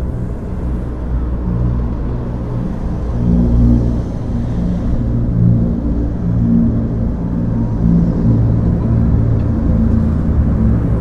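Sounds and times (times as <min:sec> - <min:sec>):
propeller aircraft droning overhead: 0:00.0 - 0:11.0.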